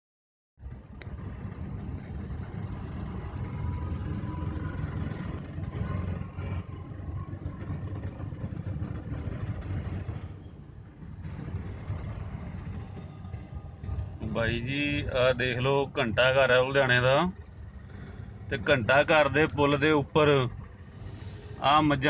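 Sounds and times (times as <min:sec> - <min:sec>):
car engine rumble: 0:00.6 - 0:22.0
road noise inside car: 0:00.6 - 0:22.0.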